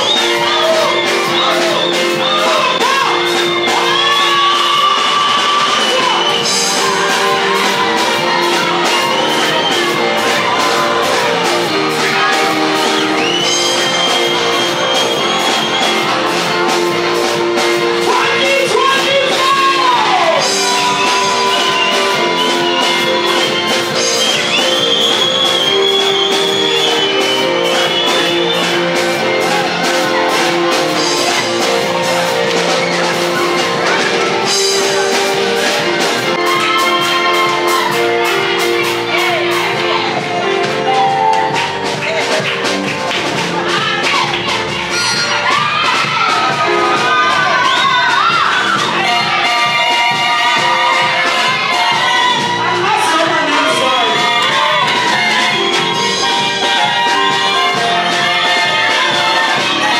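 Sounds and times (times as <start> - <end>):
singing over instruments: 0.0 - 42.4, 43.4 - 59.9.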